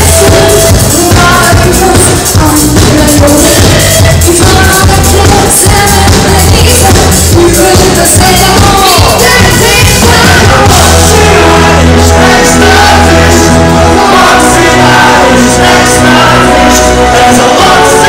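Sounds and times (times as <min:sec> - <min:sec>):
man singing lead: 0:00.0 - 0:18.0
pop rock band playing: 0:00.0 - 0:18.0.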